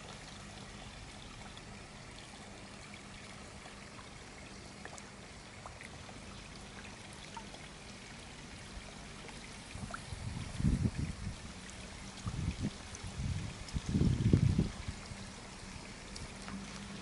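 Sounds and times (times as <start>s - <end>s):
faint drips: 0.0s - 17.0s
water trickling into pond: 0.0s - 17.0s.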